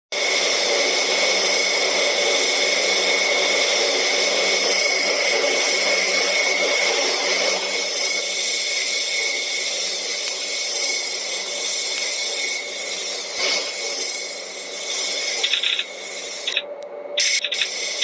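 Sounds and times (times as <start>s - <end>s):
aircraft engine running: 0.1s - 18.0s.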